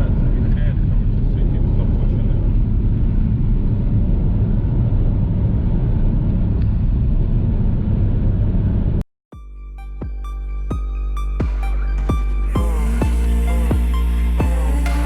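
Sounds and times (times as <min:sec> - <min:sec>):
car driving rumble: 0:00.0 - 0:09.0, 0:10.7 - 0:15.0.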